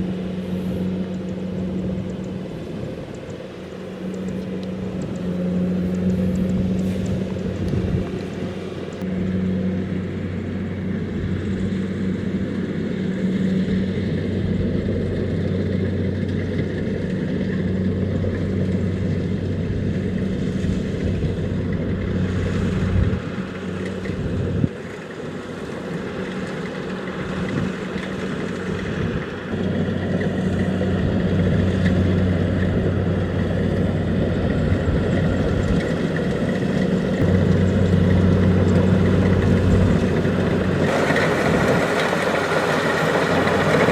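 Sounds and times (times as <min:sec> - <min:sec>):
combine harvester engine hum: 0:00.0 - 0:43.9.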